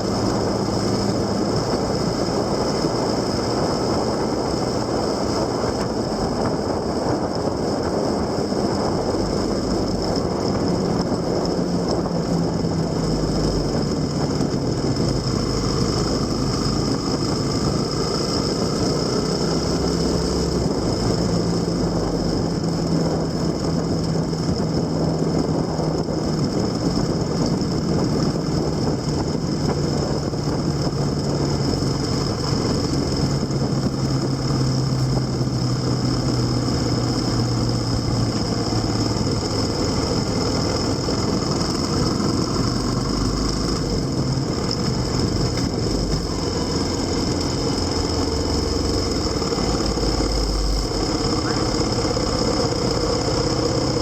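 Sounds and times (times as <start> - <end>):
vehicle engine running: 0.0 - 54.0
wind and road noise: 0.0 - 54.0.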